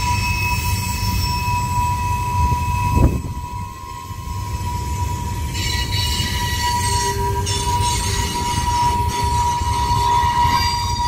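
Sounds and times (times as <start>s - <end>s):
train wheels rumbling on rail: 0.0s - 11.0s
wheels squealing on rail: 0.0s - 11.0s.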